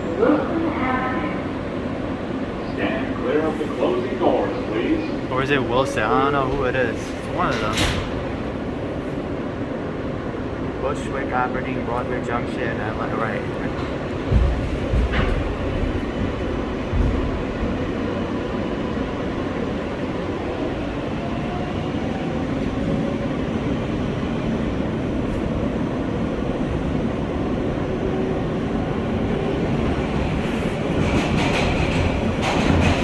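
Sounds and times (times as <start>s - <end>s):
subway wheels rumbling on rail: 0.0s - 33.0s.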